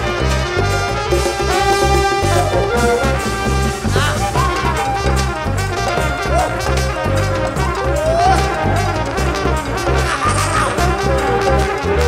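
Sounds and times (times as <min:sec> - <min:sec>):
hand drums: 0:00.0 - 0:12.0
repeating bass line: 0:00.0 - 0:12.0
trumpet long notes: 0:00.0 - 0:12.0.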